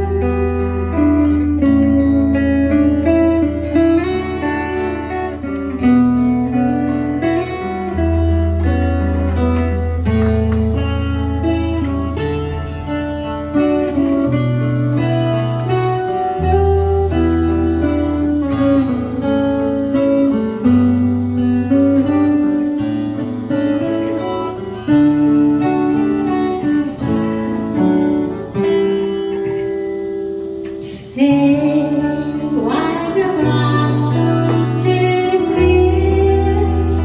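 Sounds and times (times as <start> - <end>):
guitar: 0.0 - 37.0.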